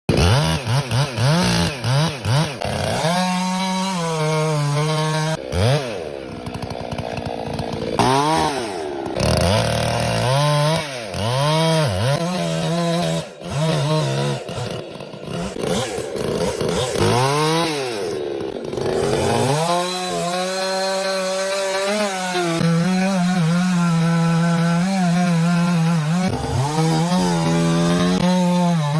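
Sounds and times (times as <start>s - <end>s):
chainsaw revving cutting wood: 0.1s - 28.9s.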